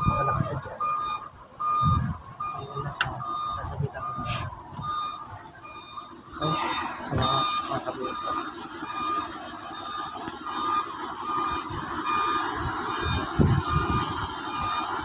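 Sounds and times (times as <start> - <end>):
machine warning beeper: 0.0 - 15.0
site machinery running: 0.0 - 15.0.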